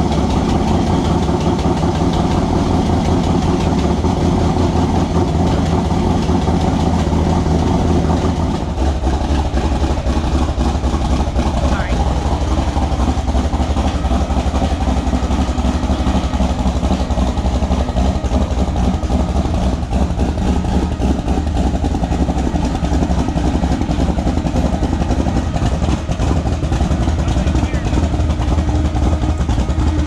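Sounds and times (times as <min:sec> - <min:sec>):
vehicle engine running steadily: 0:00.0 - 0:30.0.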